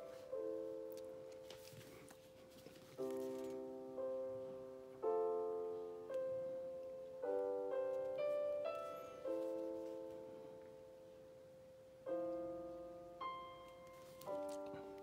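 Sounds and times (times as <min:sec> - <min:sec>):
slow soft piano: 0:00.0 - 0:15.0.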